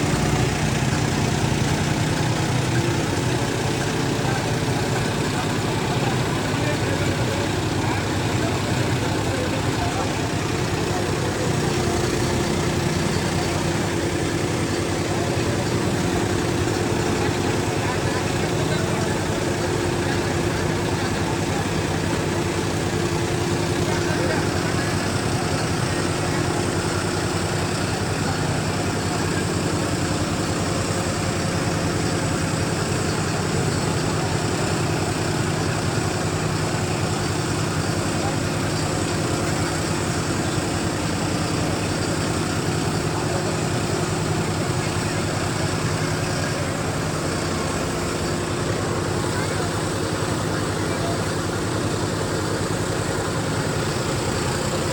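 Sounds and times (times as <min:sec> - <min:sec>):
diesel tractor engines running: 0:00.0 - 0:54.9
indistinct voices: 0:00.0 - 0:54.9.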